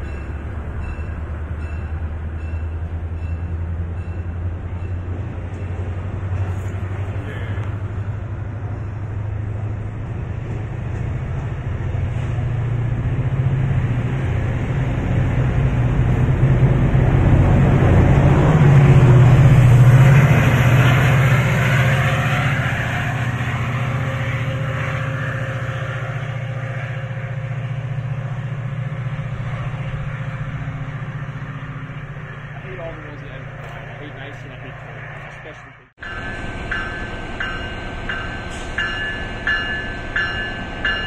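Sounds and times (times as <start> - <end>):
rush of passing train cars: 0.0 - 41.0
train pulling out: 0.0 - 41.0.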